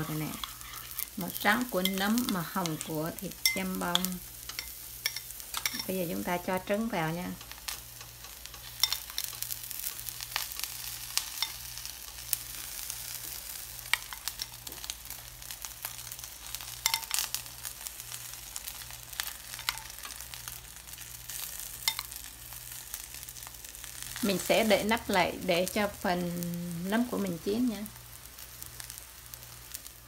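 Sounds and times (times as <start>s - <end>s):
noodles sizzling in a pan: 0.0s - 30.0s.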